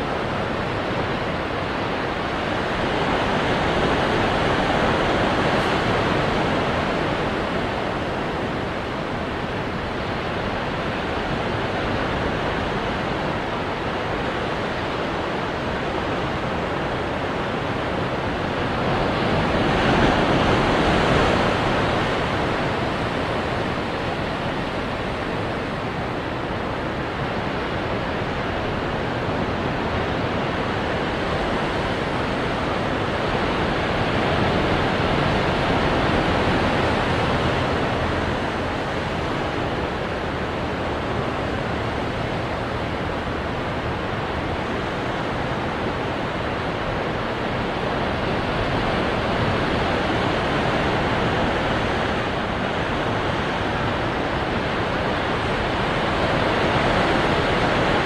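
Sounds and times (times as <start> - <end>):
surf washing against rocks: 0.0 - 58.0.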